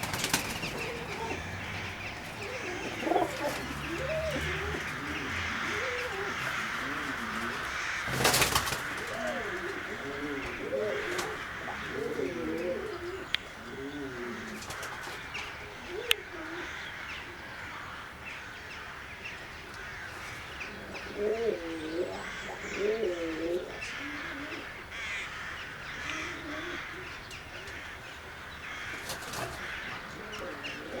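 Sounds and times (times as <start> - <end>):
pigeon-like coos: 0.0 - 16.8, 20.2 - 24.8, 26.0 - 27.8, 28.9 - 31.0
flock of birds chattering: 0.0 - 31.0.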